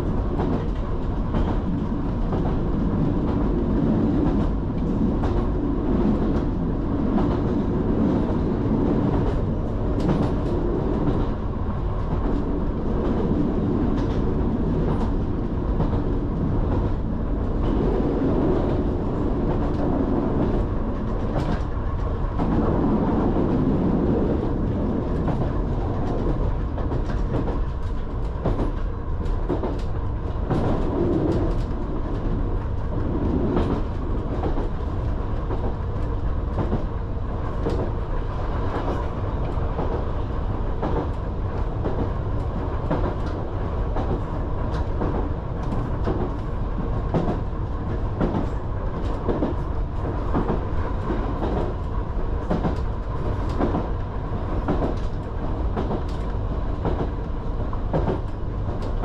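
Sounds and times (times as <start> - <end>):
train running low rumble: 0.0 - 59.0.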